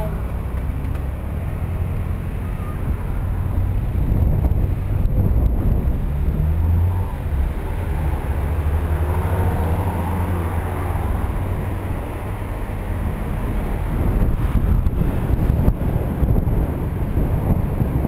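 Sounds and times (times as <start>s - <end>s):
car traffic on wet road: 0.0s - 18.0s
wind buffeting microphone: 0.3s - 18.0s.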